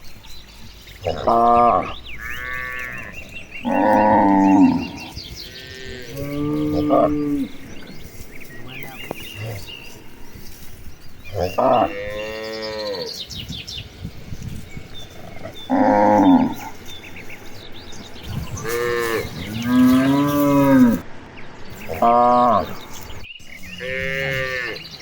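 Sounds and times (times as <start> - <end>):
cows mooing: 0.9 - 13.3, 14.5 - 21.0, 21.7 - 25.0.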